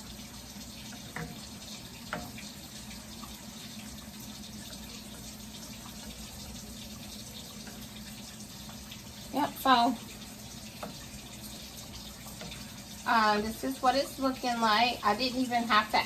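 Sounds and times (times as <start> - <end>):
gravy bubbling in a skillet: 0.0 - 16.0.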